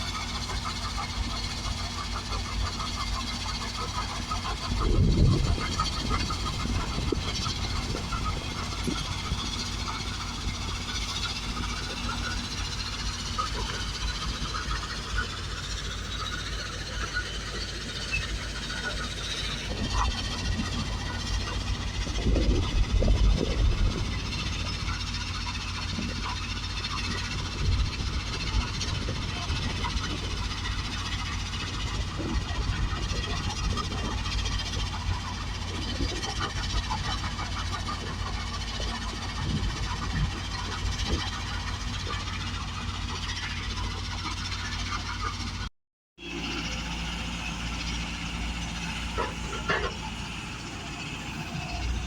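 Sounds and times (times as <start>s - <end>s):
heavy diesel machinery running: 0.0s - 52.0s.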